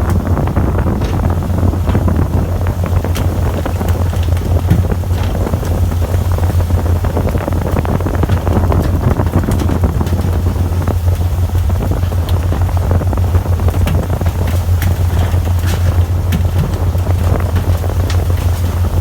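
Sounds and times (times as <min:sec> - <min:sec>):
boat engine humming: 0:00.0 - 0:19.0
wind buffeting microphone: 0:00.0 - 0:19.0.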